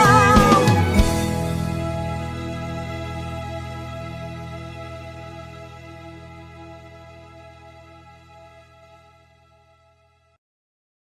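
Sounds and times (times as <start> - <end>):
band holding sustained chord: 0.0 - 10.2.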